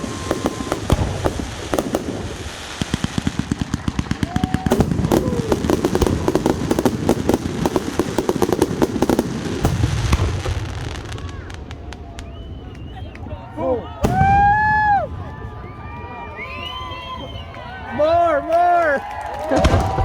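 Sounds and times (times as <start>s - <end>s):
firework whistles: 0.0s - 15.0s, 15.6s - 17.7s
fireworks cracking and popping: 0.0s - 16.8s, 19.4s - 20.0s.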